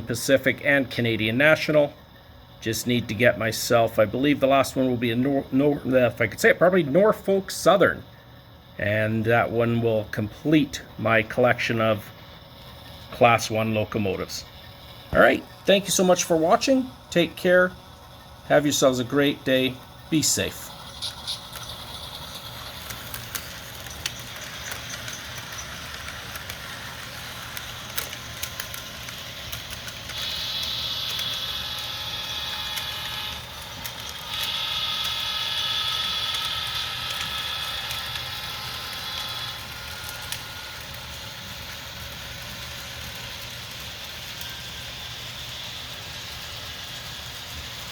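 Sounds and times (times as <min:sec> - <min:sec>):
model locomotive diesel engine sound: 0:00.0 - 0:47.9.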